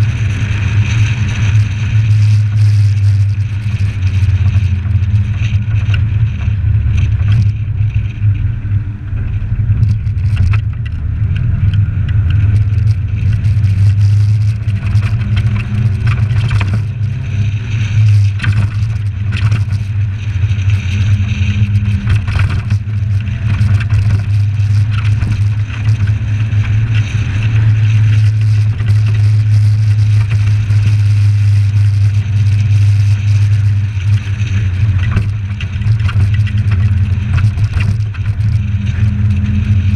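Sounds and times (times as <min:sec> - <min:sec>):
muffled car engine drone: 0:00.0 - 0:39.9
road noise: 0:00.0 - 0:39.9.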